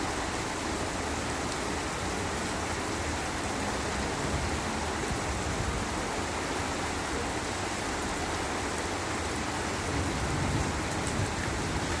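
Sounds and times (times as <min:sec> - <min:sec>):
heavy rain on a road: 0:00.0 - 0:12.0.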